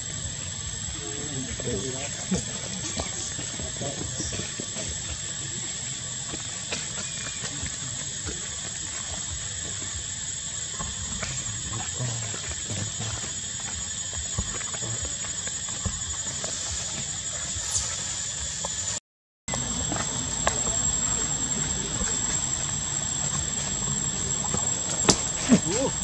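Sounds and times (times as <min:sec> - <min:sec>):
high-pitched insect drone: 0:00.0 - 0:26.0
monkeys rustling tree branches: 0:00.0 - 0:26.0.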